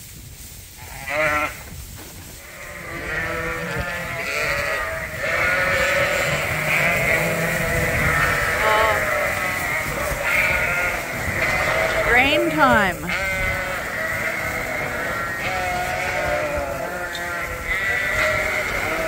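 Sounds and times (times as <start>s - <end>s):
sheep and lambs bleating: 0.8s - 1.6s, 2.4s - 19.0s.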